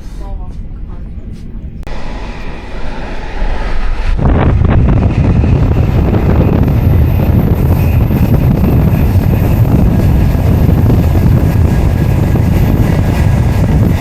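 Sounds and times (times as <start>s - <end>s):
train riding: 0.0s - 14.0s
wind rushing over microphone: 1.9s - 14.0s.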